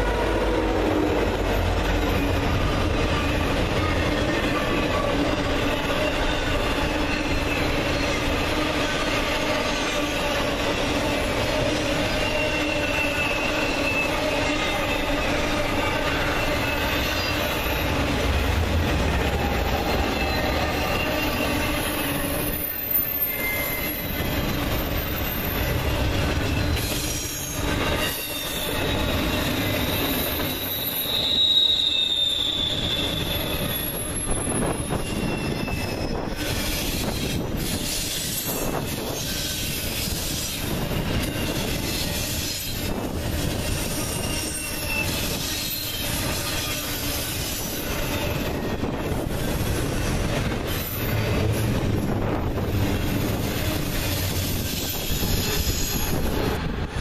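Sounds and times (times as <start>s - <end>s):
freight train wheels rumbling on rail: 0.0s - 57.0s
wheel flange squeal: 3.2s - 10.8s, 11.4s - 18.1s, 19.3s - 52.4s, 53.2s - 56.4s.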